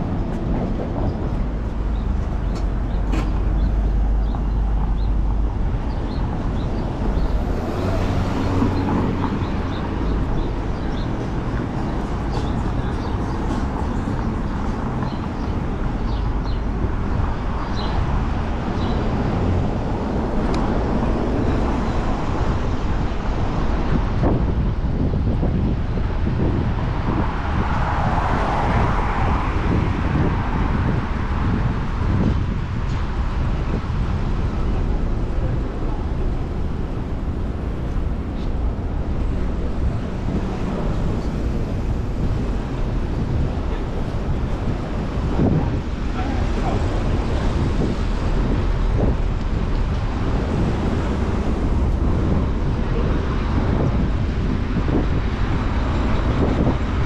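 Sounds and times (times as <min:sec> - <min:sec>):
city traffic: 0:00.0 - 0:57.0
wind on microphone: 0:00.0 - 0:57.0.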